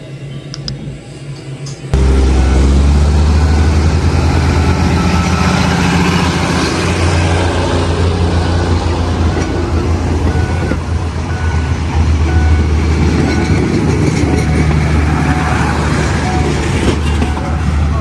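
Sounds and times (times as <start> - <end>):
heavy vehicle engine running: 1.9 - 18.0.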